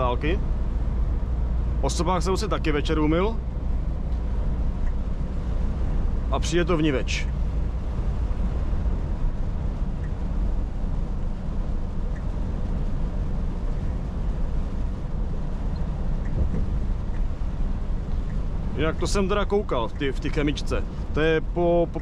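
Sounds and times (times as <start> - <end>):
diesel engine rumble: 0.0 - 22.0
tyre and road noise: 0.0 - 22.0.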